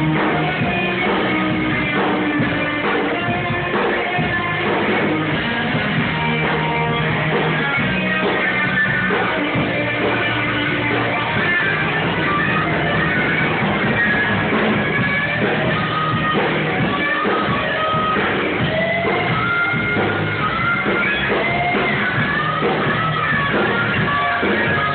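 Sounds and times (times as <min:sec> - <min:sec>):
rock band playing live: 0:00.0 - 0:24.9.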